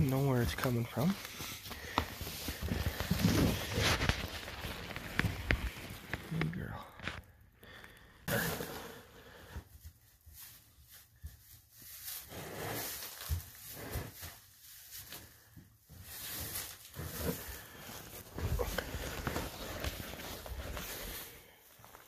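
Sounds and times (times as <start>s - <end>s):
hooves rustling in straw: 0.0s - 6.2s, 9.5s - 22.0s.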